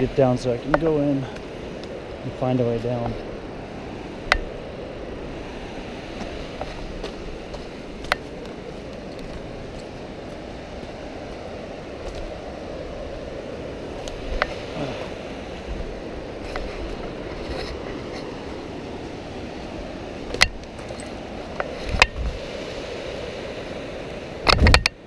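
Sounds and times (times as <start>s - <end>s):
river rapids rushing: 0.0s - 25.0s.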